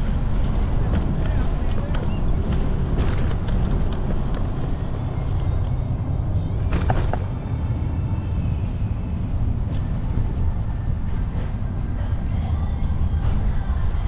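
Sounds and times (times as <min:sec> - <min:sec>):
road and traffic noise: 0:00.0 - 0:14.0
wind rumble on microphone: 0:00.0 - 0:14.0.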